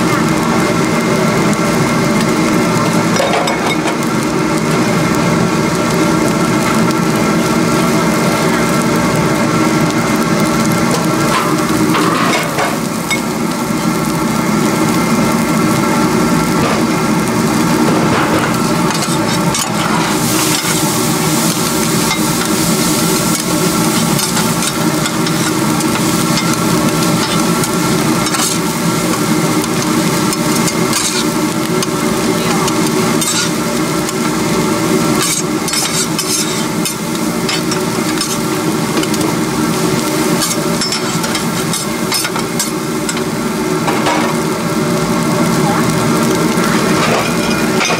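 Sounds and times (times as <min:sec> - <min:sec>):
food sizzling: 0:00.0 - 0:47.9.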